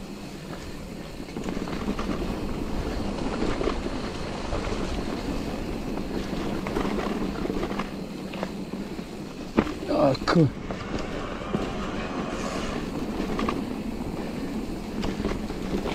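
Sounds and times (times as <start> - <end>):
bike tyres crunching over leaves: 0.0 - 15.9.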